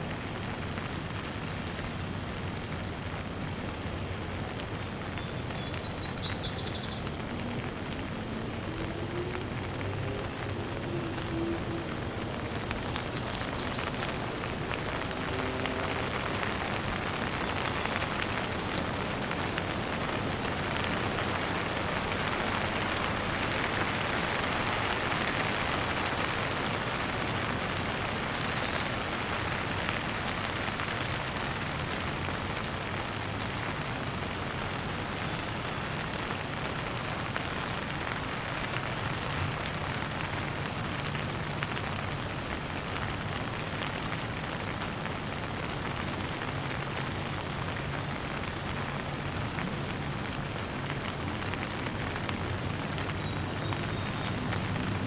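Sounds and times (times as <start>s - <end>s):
gentle rain falling: 0.0s - 55.0s.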